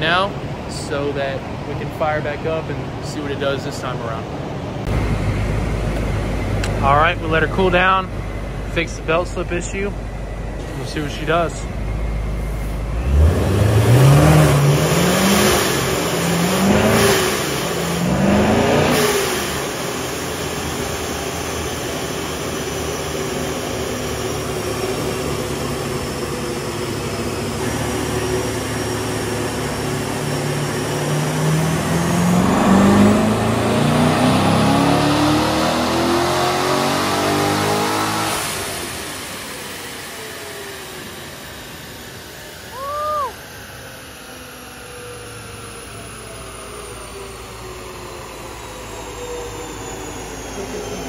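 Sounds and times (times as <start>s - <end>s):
car engine revving: 0.0s - 43.2s
high whine rising in pitch: 3.1s - 51.0s.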